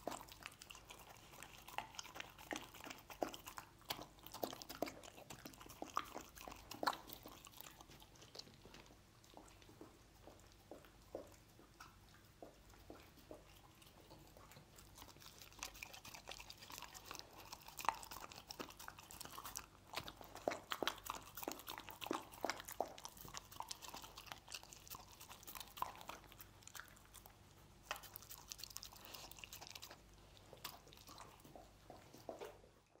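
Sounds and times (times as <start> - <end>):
dog chewing and crunching: 0.0 - 33.0.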